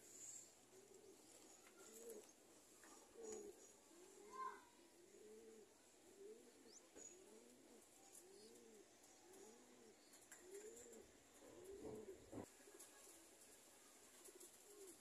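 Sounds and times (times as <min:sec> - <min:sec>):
pigeons cooing: 0:00.0 - 0:12.5, 0:14.1 - 0:15.0.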